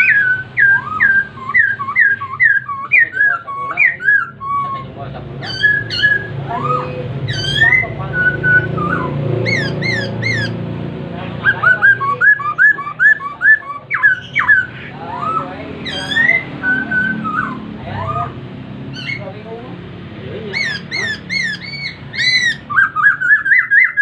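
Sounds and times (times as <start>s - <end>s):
bird singing whistled phrases: 0.0s - 10.6s, 11.4s - 18.4s, 20.5s - 24.0s.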